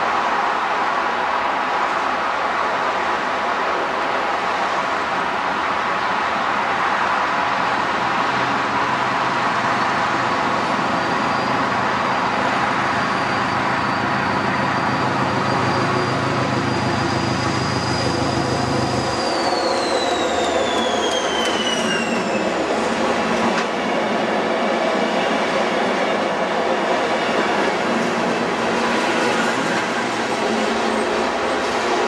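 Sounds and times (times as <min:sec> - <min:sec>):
high whine of train: 0:00.0 - 0:32.0
train engine drone: 0:00.0 - 0:32.0.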